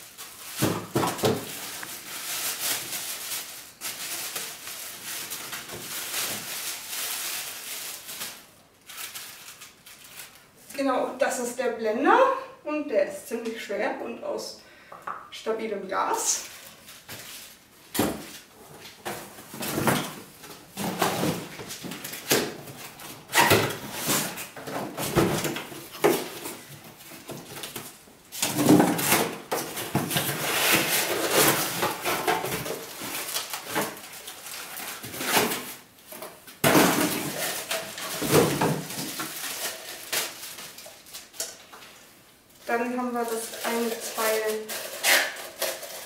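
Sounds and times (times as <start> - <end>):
packaging rustling and crinkling: 0.0 - 10.7, 16.3 - 46.0.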